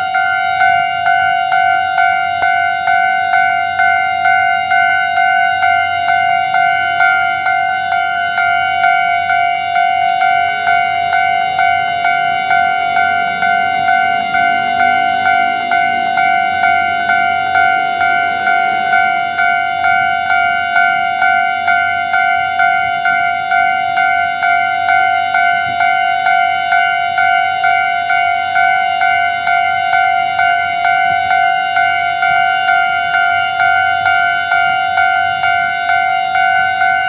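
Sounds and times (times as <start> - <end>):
level crossing warning bell: 0.0 - 37.0.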